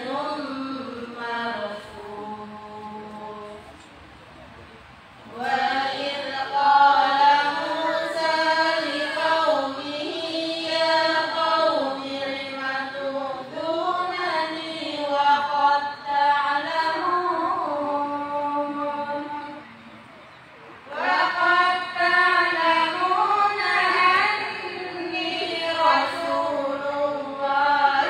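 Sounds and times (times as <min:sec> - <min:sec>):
women chanting through loudspeakers: 0:00.0 - 0:03.7, 0:05.2 - 0:19.8, 0:20.8 - 0:28.0.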